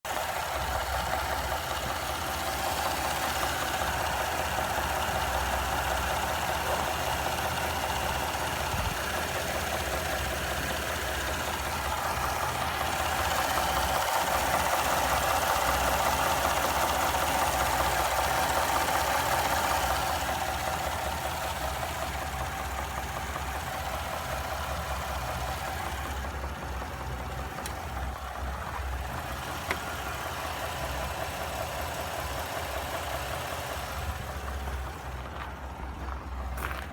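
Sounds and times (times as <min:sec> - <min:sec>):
car engine running: 0:00.0 - 0:36.9
engine knocking: 0:00.0 - 0:36.9.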